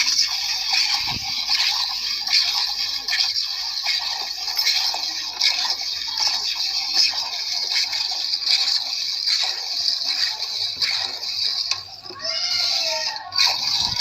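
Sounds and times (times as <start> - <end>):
milk squirting into a pail: 0.0 - 14.0.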